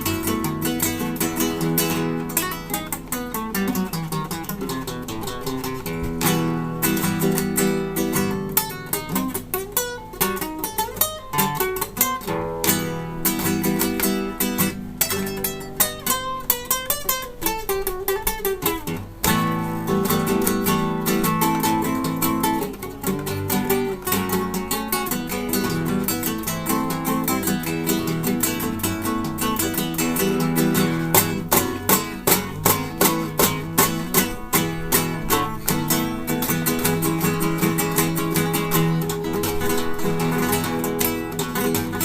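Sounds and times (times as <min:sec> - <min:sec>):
acoustic guitar playing: 0:00.0 - 0:42.0.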